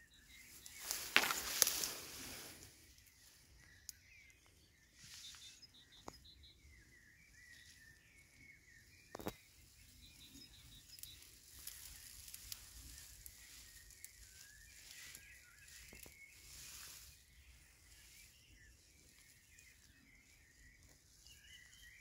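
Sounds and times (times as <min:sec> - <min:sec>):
faint bird chirps: 0:00.0 - 0:22.0.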